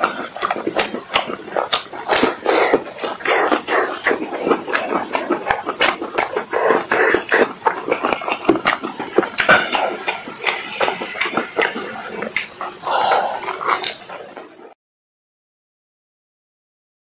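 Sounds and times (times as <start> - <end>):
chewing and lip-smacking: 0.0 - 14.8.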